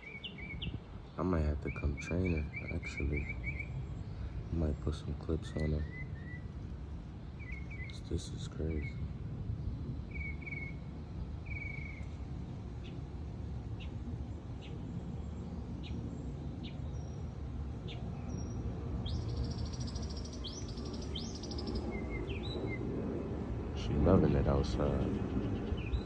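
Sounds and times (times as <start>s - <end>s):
birds chirping: 0.0s - 22.9s, 23.8s - 26.0s.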